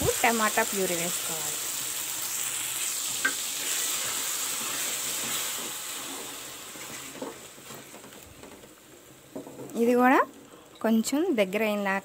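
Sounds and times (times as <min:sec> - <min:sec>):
food sizzling in hot oil: 0:00.0 - 0:11.8.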